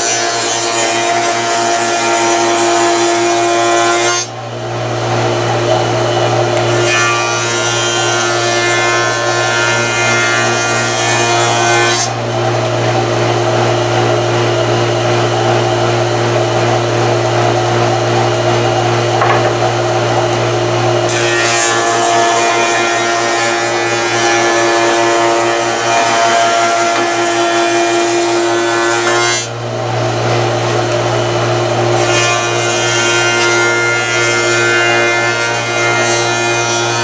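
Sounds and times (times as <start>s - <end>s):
cutter cutting wood: 5.7s - 37.0s.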